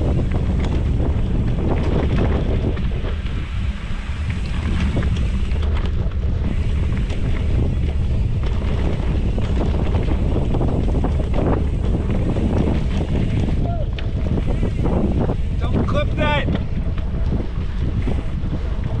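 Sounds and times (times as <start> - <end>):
bike clicks and rattles: 0.0 - 19.0
bike tyres rumbling on dirt: 0.0 - 19.0
wind buffeting microphone: 0.0 - 19.0.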